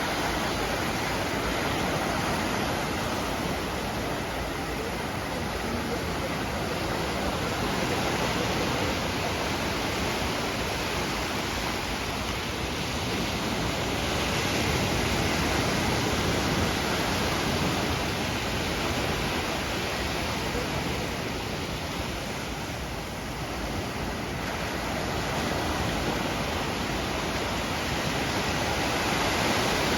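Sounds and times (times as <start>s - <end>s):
surf rushing on a beach: 0.0s - 29.9s.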